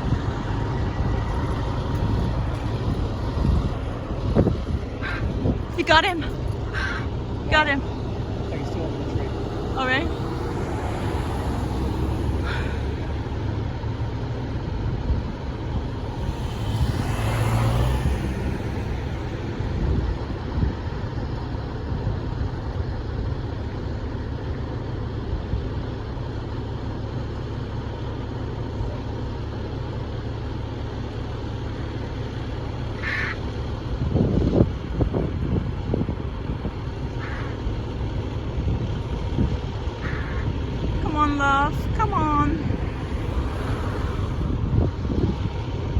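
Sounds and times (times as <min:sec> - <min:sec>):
fire truck engine idling: 0:00.0 - 0:16.2, 0:19.1 - 0:42.8.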